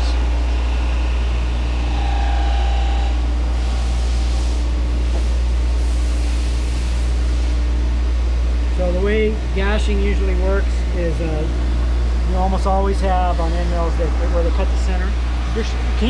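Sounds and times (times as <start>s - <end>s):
grinding machine hum: 0.0s - 16.0s.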